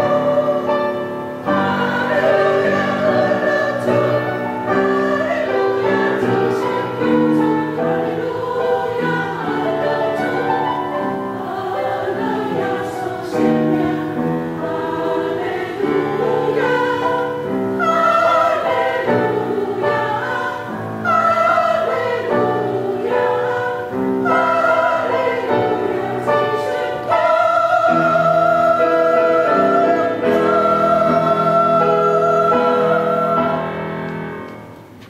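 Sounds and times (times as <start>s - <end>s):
women's choir singing a hymn: 0.0s - 34.9s.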